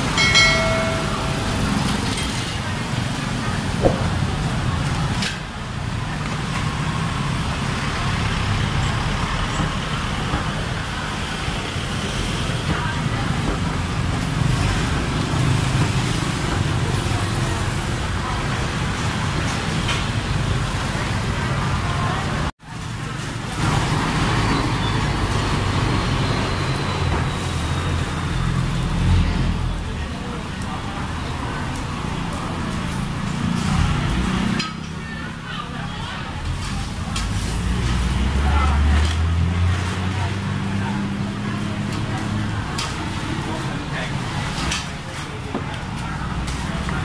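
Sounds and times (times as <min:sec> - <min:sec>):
passing street traffic rumble: 0:00.0 - 0:47.0.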